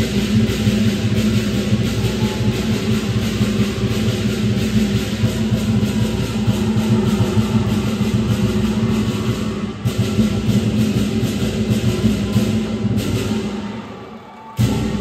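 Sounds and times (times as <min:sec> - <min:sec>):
drum cymbals and gong beat: 0:00.0 - 0:13.6.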